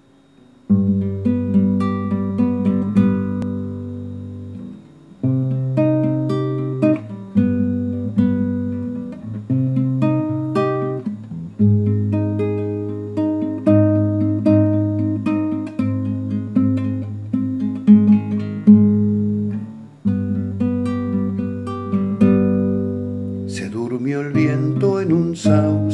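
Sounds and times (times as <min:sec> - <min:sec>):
classical guitar playing: 0:00.6 - 0:25.9.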